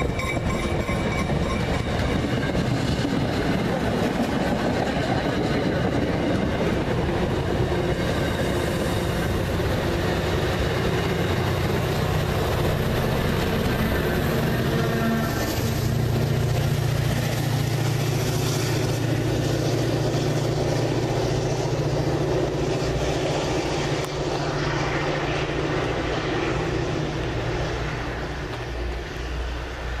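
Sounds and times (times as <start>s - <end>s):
diesel locomotive engine drone: 0.0s - 30.0s
train rail rumble: 0.0s - 30.0s.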